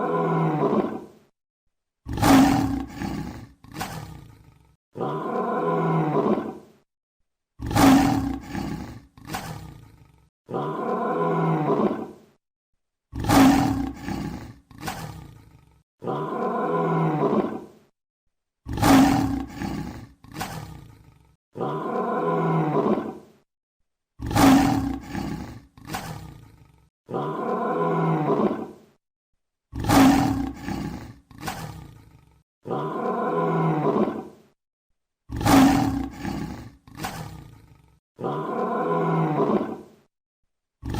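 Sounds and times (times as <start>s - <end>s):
lion roaring and grunting: 0.0s - 1.1s, 2.1s - 6.7s, 7.6s - 12.2s, 13.2s - 17.7s, 18.7s - 23.3s, 24.2s - 28.8s, 29.8s - 34.4s, 35.3s - 40.0s.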